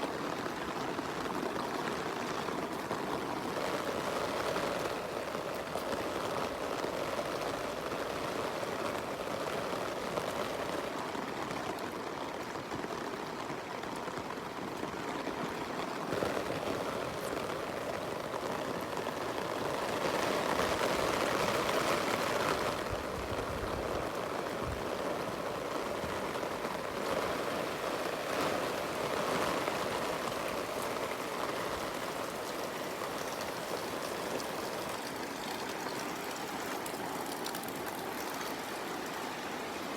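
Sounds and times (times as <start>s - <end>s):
running water: 0.0s - 39.9s
steady rain falling: 0.0s - 39.9s.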